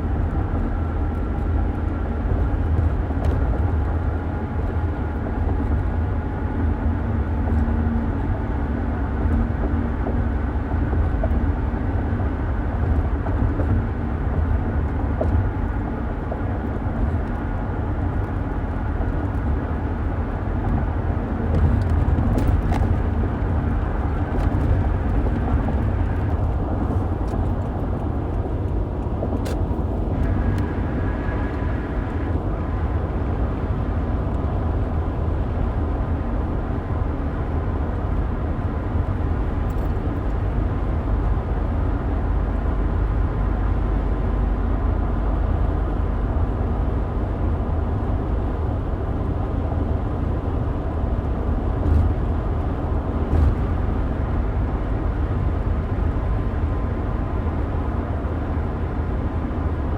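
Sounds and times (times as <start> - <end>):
car road noise from inside: 0.0 - 59.9.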